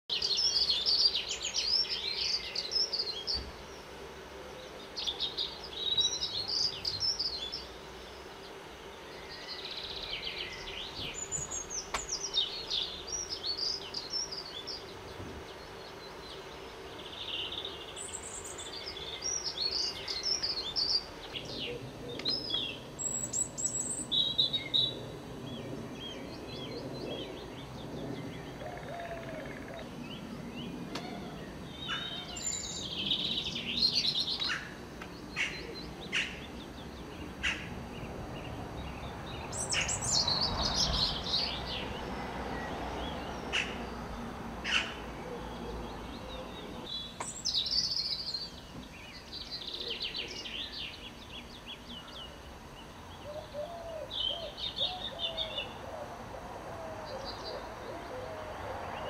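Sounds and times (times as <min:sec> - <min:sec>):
birds singing and calling: 0:00.1 - 0:59.0.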